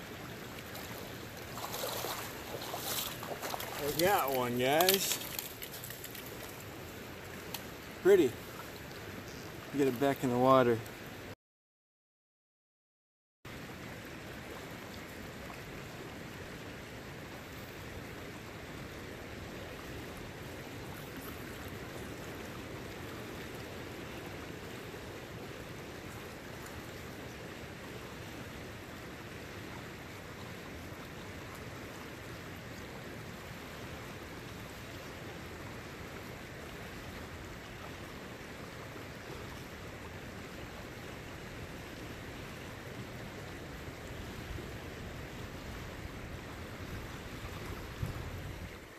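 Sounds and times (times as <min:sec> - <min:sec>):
creek current rushing: 0:00.0 - 0:11.3, 0:13.5 - 0:48.9.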